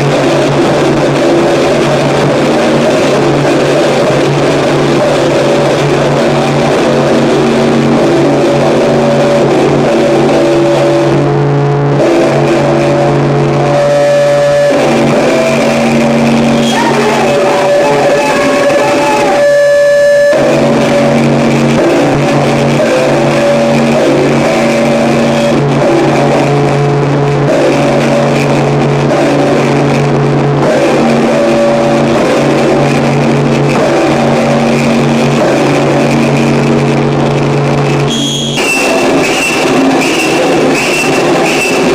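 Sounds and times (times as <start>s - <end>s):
distorted noise hiss: 0.0s - 41.9s
low droning hum: 0.0s - 41.9s
sharp noise burst: 0.0s - 41.9s.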